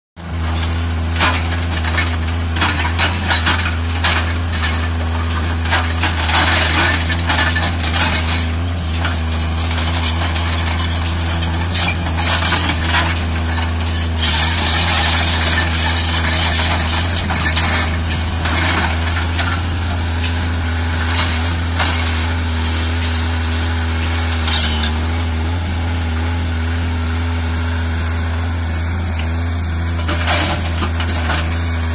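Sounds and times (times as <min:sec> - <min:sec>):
diesel engine running: 0:00.2 - 0:31.9.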